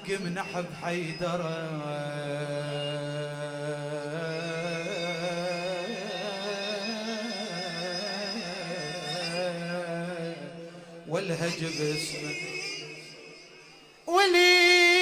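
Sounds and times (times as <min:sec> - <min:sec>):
man chanting melismatically: 0:00.0 - 0:15.0.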